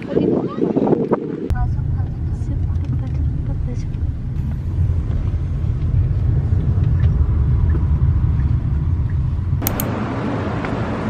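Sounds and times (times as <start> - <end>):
road rumble inside car: 1.5 - 11.0.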